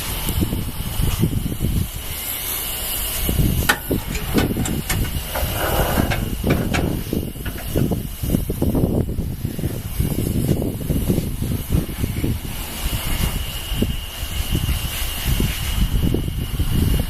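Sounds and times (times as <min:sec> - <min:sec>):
road sweeper rumbling: 0:00.0 - 0:17.0
steady hiss: 0:00.0 - 0:17.0.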